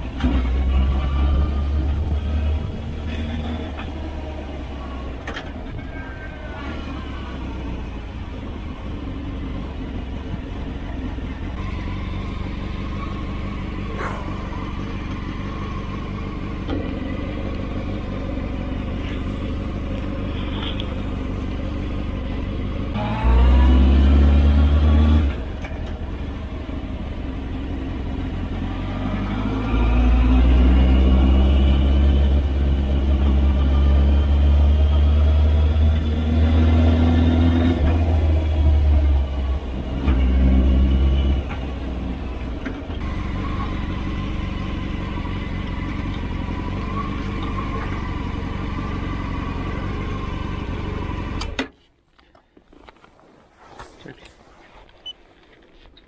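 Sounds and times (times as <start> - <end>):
motorcycle engine revving: 6.2 - 51.5.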